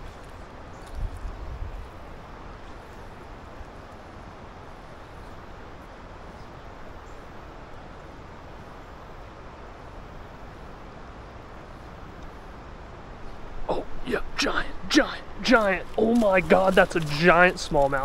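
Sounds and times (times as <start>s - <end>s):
river water flowing: 0.0s - 18.0s.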